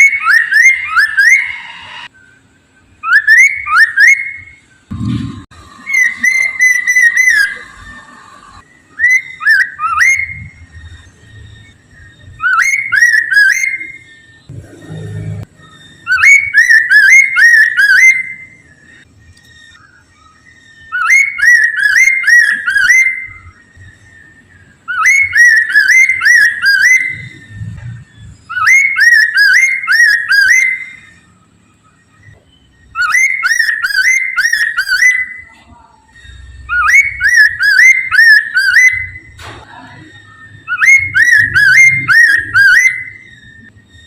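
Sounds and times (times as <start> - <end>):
bird singing whistled phrases: 0.0 - 4.8, 5.7 - 14.5, 15.5 - 44.0.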